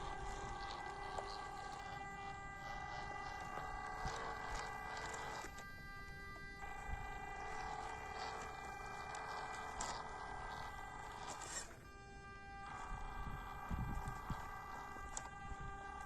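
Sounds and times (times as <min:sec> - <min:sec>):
electric motor and gear whine: 0:00.0 - 0:16.0
tyres ticking and scraping: 0:00.0 - 0:16.0.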